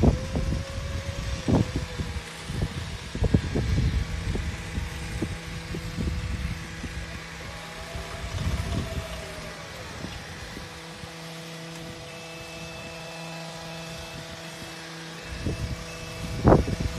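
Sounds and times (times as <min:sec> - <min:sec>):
rising and falling whine: 0:00.0 - 0:16.9
tracked platform motor humming: 0:00.0 - 0:16.9.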